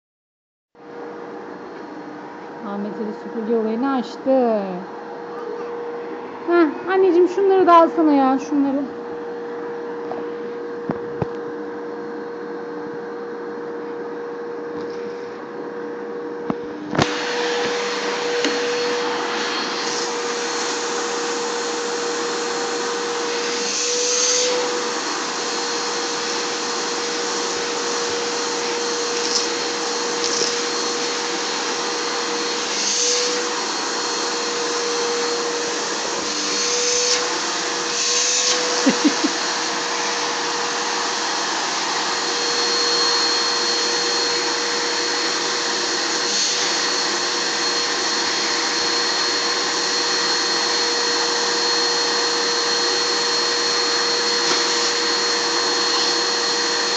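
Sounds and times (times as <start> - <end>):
vacuum cleaner running: 0.8 - 56.9.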